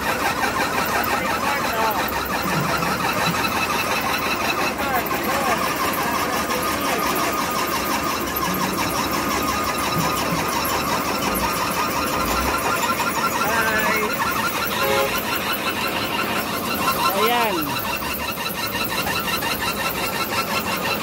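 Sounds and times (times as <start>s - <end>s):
machinery mechanical din: 0.0s - 21.0s
thin steady whine: 0.0s - 21.0s.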